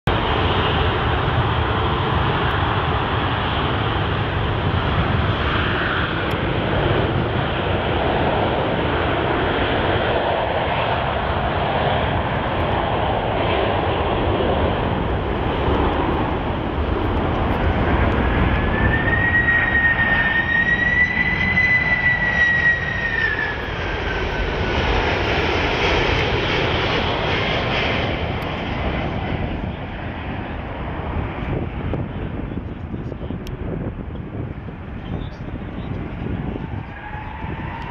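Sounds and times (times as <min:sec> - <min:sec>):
high jet engine whine: 0:00.1 - 0:37.9
jet airliner passing overhead: 0:00.1 - 0:37.9.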